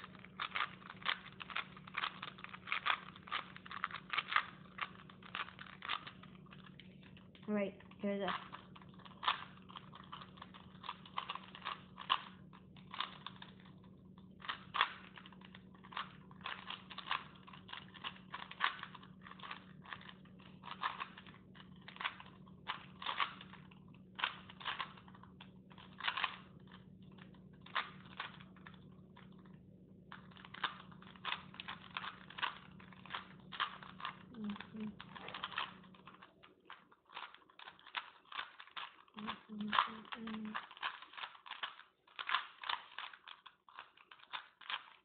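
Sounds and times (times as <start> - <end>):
plastic cube clicking: 0.0 - 45.0.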